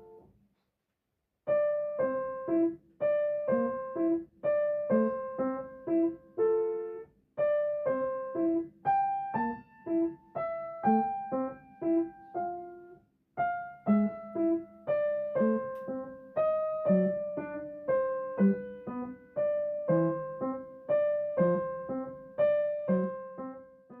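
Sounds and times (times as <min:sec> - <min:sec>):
gentle piano melody: 0:00.0 - 0:00.3, 0:01.5 - 0:24.0.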